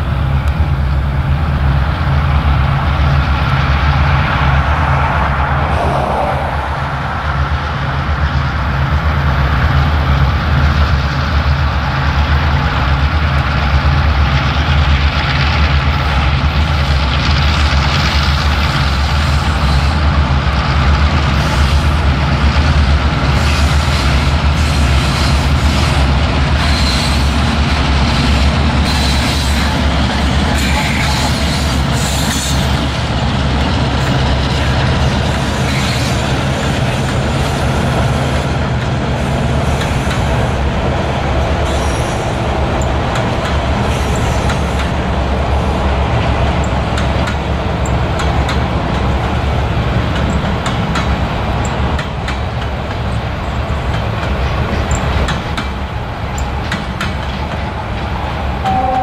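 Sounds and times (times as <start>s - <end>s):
locomotive engine rumble: 0.0s - 59.0s
steel wheels running on rails: 0.0s - 59.0s.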